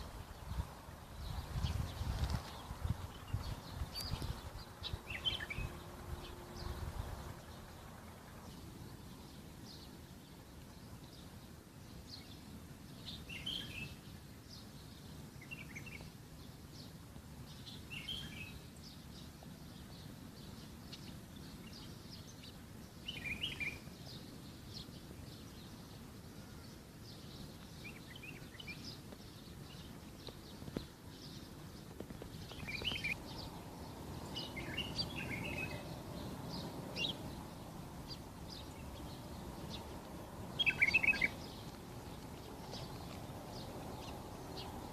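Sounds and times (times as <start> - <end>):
low outdoor background noise: 0.0 - 44.9
wild birds chirping: 0.0 - 44.9.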